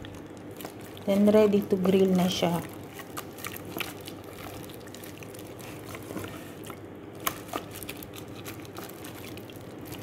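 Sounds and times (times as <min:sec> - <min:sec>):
wet squelches of meat in marinade: 0:00.0 - 0:01.3, 0:02.5 - 0:10.0.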